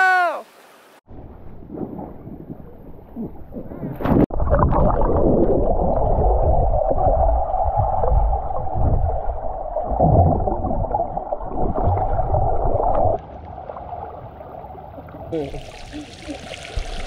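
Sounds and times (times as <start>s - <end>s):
muffled underwater rushing water: 0.4s - 17.0s.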